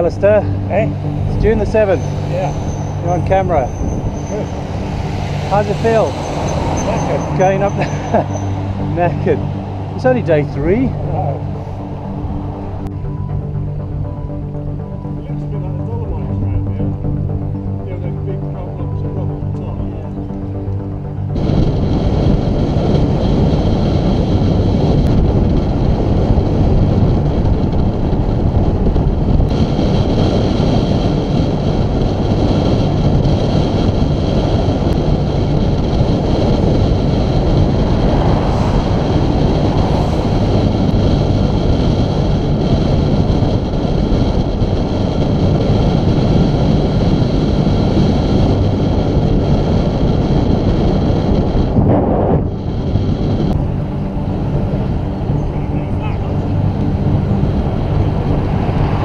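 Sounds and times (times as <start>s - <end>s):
vehicle passing: 0.0s - 15.6s, 16.3s - 43.2s, 45.2s - 59.0s
wind rumble on microphone: 0.0s - 59.0s.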